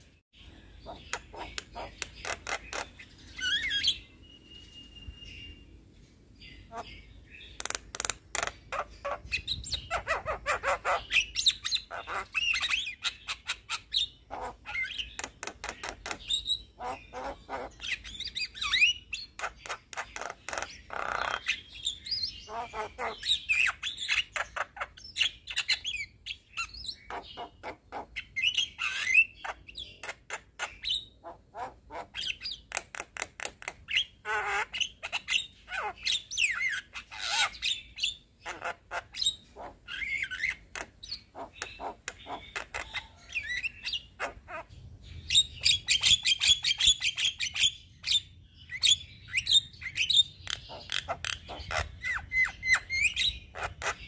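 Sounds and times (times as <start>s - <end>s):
myna singing clicks and chirps: 0.0s - 54.0s.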